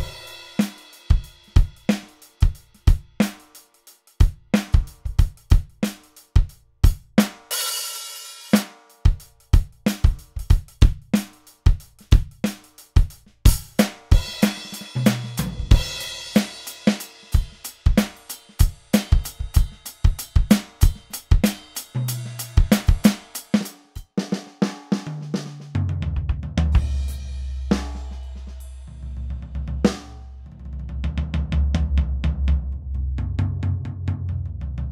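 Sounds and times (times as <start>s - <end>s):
electronic drum kit groove: 0.0s - 30.8s.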